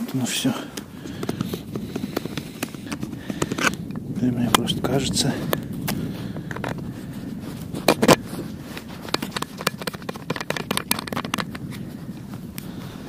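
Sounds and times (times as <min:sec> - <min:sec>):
footsteps crunching in snow: 0:00.0 - 0:10.3, 0:11.4 - 0:13.0.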